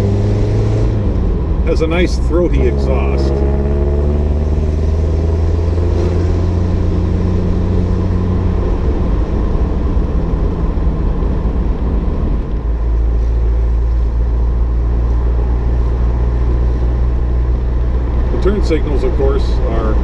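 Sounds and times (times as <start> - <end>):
car engine with throaty exhaust: 0.0 - 20.0.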